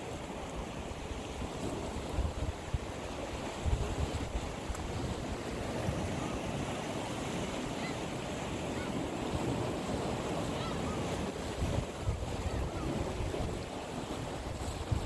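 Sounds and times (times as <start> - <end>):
waves washing on rocks: 0.0 - 15.0
wind buffeting microphone: 1.1 - 15.0.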